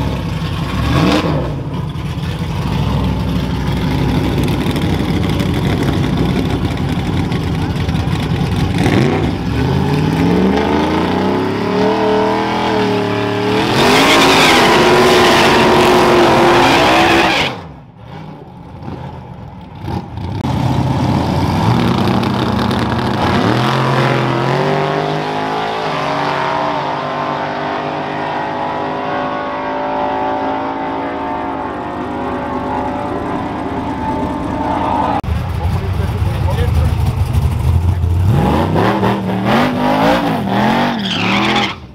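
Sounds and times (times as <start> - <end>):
engines revving and accelerating: 0.0 - 1.9, 8.6 - 19.2, 19.8 - 41.9.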